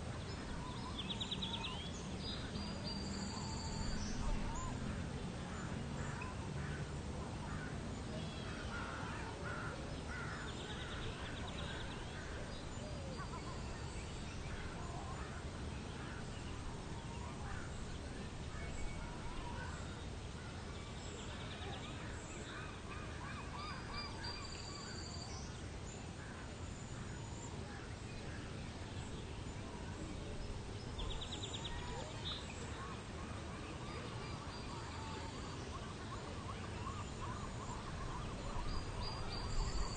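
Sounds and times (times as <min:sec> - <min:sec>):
birds calling and chirping: 0:00.0 - 0:39.9
steady low hiss: 0:00.0 - 0:39.9.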